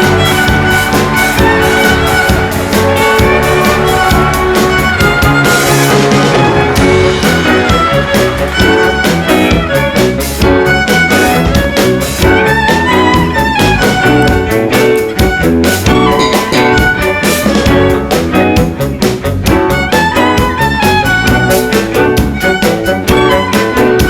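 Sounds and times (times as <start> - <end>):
band music: 0.0 - 24.0
violin melody: 0.0 - 24.0.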